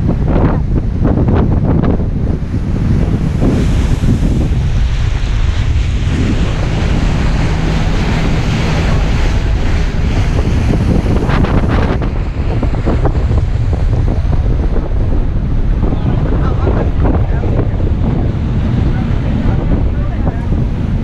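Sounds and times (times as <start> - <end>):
sea water rushing: 0.0 - 21.0
wind buffeting microphone: 0.0 - 21.0.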